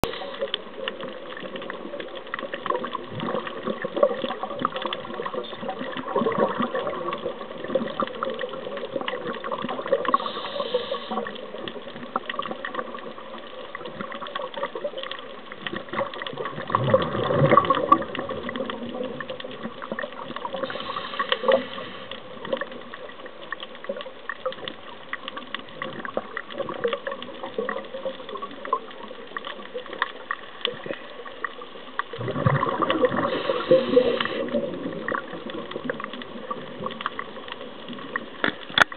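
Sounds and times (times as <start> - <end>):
bubbles rushing: 0.0 - 38.4
underwater crackle: 0.0 - 38.9.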